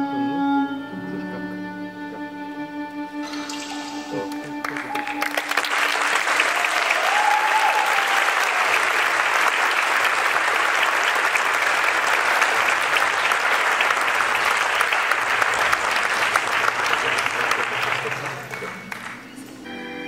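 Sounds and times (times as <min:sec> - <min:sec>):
audience applauding: 0:03.5 - 0:19.6.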